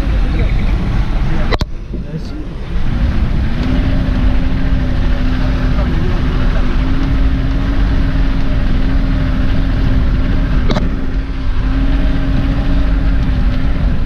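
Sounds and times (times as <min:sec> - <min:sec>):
vehicle engine running in low gear: 0:00.0 - 0:14.0.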